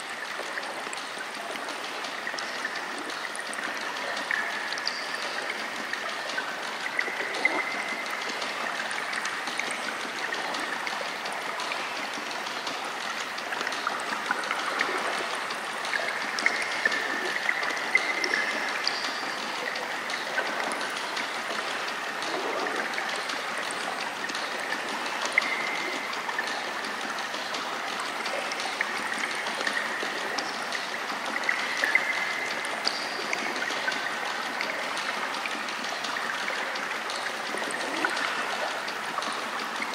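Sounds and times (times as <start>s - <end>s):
stream water running: 0.0s - 39.9s
water splashes: 0.0s - 39.9s.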